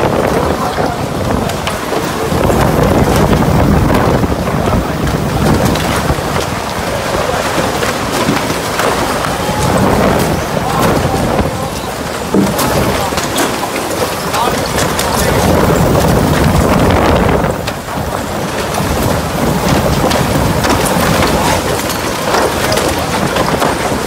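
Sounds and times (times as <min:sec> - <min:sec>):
rain: 0:00.0 - 0:24.0
strong wind gusts: 0:00.0 - 0:24.0
wind buffeting microphone: 0:00.0 - 0:24.0.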